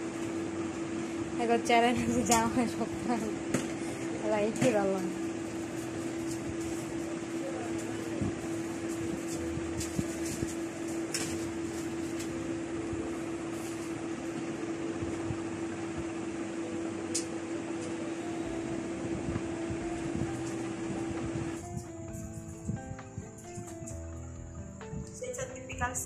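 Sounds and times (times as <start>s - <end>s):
machine hum: 0.0s - 25.7s.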